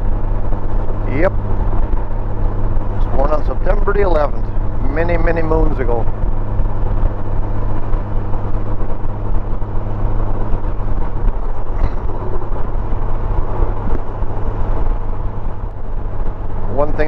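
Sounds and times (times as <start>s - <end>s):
motorcycle engine drone: 0.0s - 17.0s
wind and road noise: 0.0s - 17.0s.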